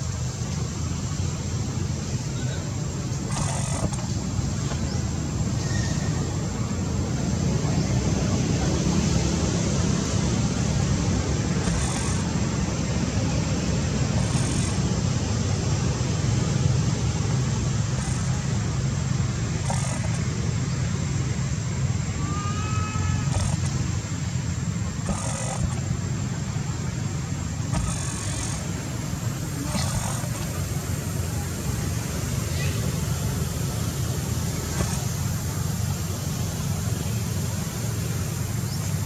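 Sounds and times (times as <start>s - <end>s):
steady low rumbling: 0.0s - 39.0s.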